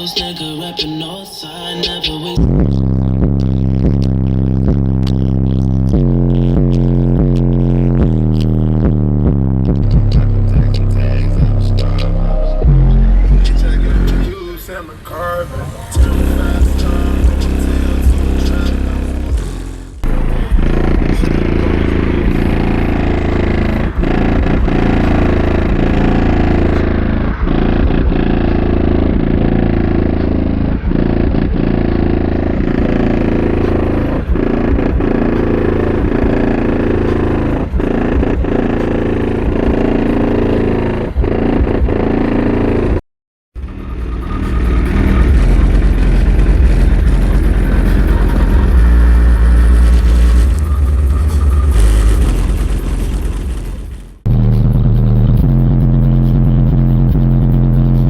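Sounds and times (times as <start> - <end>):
bass-heavy music through subwoofers: 0.0 - 43.0, 43.6 - 58.0.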